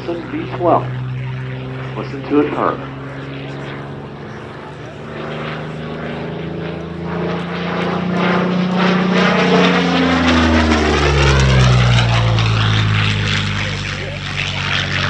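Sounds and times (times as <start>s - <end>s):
propeller plane passing by: 0.0s - 15.0s.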